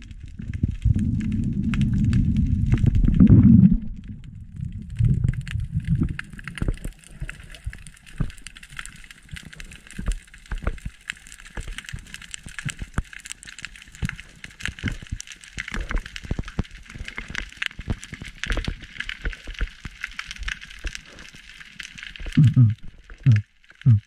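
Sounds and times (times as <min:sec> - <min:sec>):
underwater clicks and crackles: 0:00.0 - 0:24.0.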